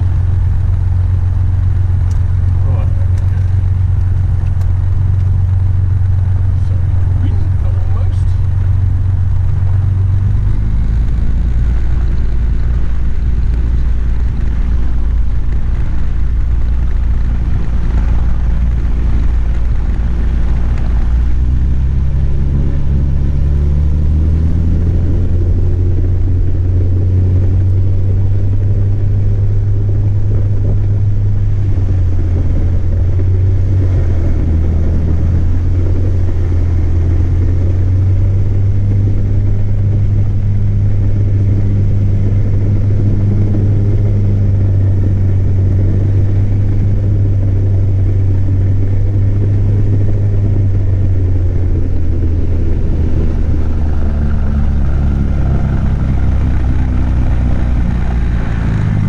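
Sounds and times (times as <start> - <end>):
light aircraft engine and propeller: 0.0 - 59.0.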